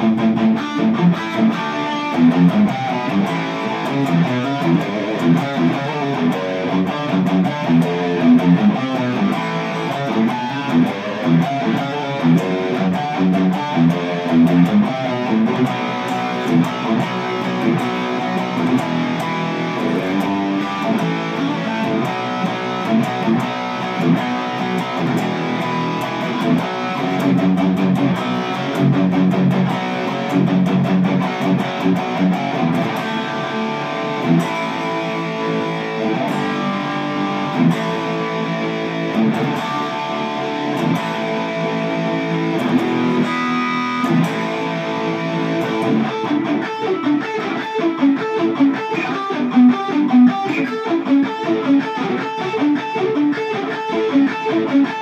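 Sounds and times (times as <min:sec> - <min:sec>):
electric guitar riffs: 0:00.0 - 0:55.0.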